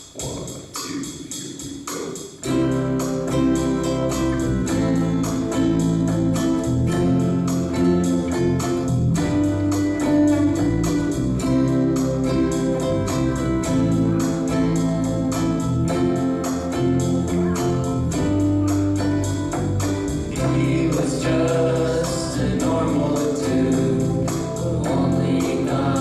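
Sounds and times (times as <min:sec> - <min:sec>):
rock band playing: 0:02.4 - 0:26.0.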